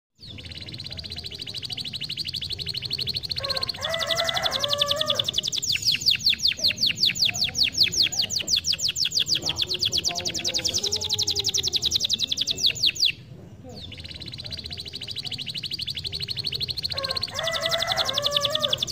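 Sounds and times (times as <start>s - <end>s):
canary singing: 0.2s - 18.9s.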